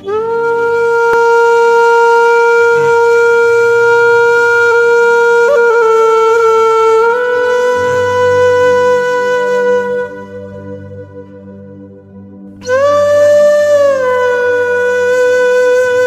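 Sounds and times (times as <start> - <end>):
wind instrument long note: 0.0 - 16.0.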